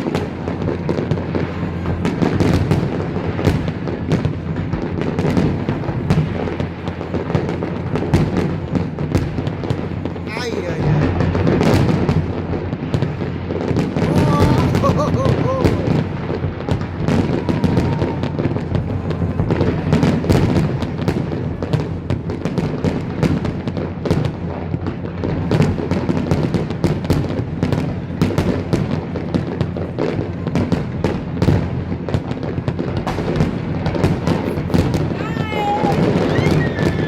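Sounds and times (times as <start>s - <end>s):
fireworks bangs and crackles: 0.0s - 37.0s
low rumble of explosions: 0.0s - 37.0s.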